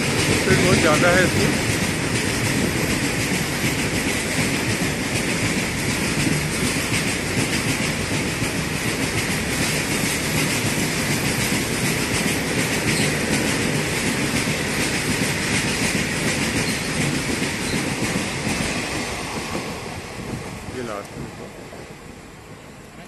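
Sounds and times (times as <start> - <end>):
train rumble and hiss: 0.0 - 23.0
train wheel clatter: 0.0 - 23.0.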